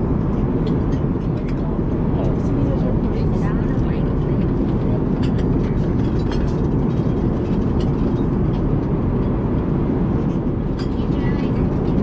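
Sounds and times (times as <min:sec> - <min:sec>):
airplane cabin drone: 0:00.0 - 0:12.0.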